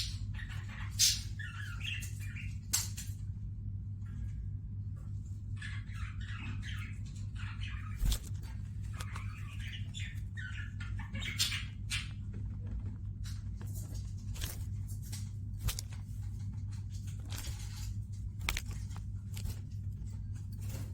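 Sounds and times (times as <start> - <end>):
caged birds chirping and chattering: 0.0 - 20.9
steady low hum: 0.0 - 20.9.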